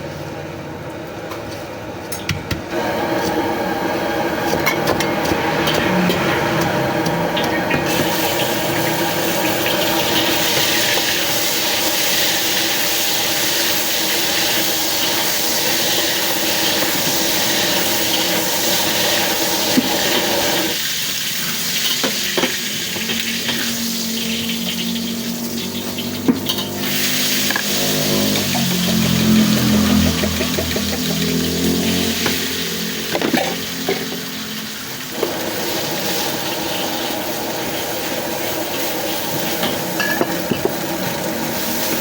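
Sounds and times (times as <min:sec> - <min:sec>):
food sizzling in a wok: 0:02.7 - 0:42.0.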